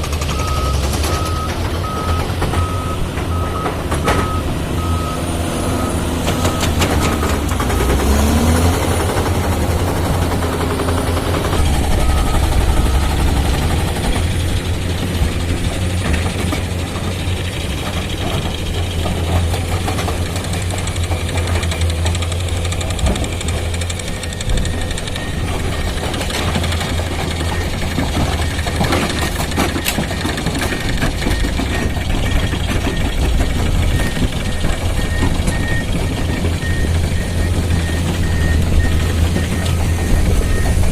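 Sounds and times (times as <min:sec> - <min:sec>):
diesel engine droning under load: 0:00.0 - 0:40.9.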